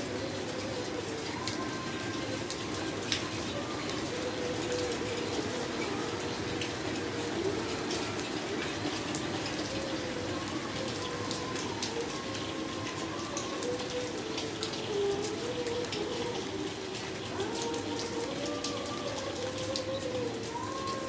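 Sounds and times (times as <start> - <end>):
heavy rain on wet tiles: 0.0 - 21.0.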